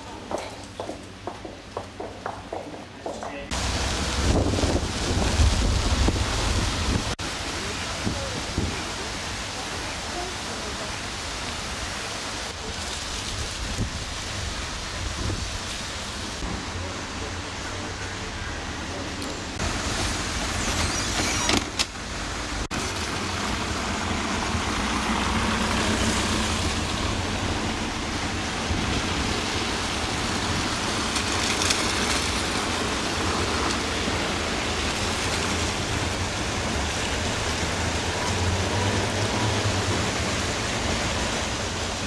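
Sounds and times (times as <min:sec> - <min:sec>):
rain on town street: 0:00.0 - 0:42.0.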